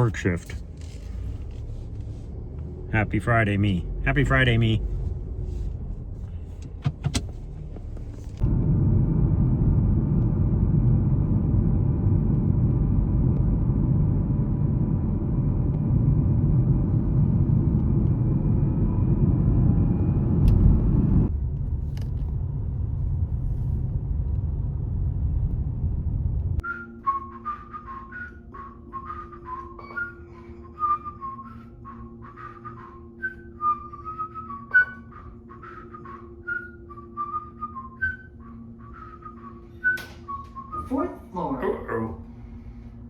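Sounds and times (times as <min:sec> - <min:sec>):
vehicle engine rumble: 0:00.0 - 0:41.0.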